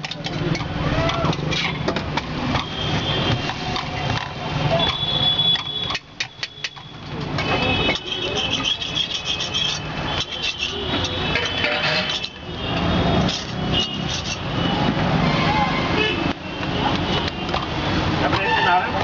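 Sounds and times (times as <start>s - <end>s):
traffic: 0.0s - 19.0s.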